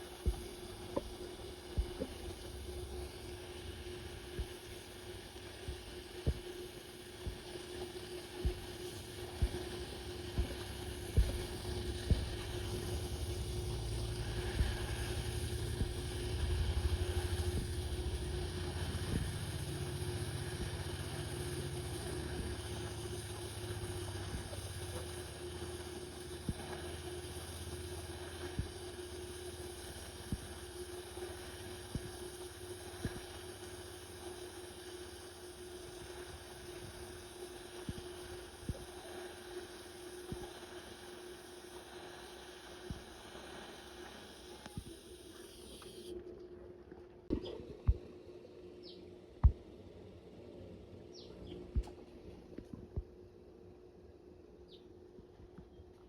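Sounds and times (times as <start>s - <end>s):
welding arc humming and hissing: 0.0s - 46.2s.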